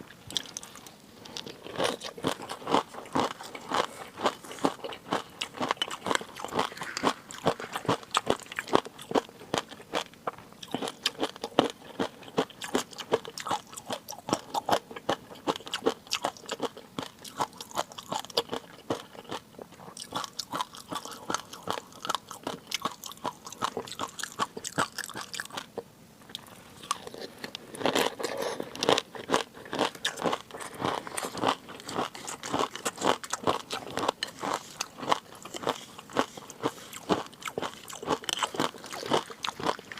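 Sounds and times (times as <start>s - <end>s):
chewing crunchy food: 0.1s - 39.9s.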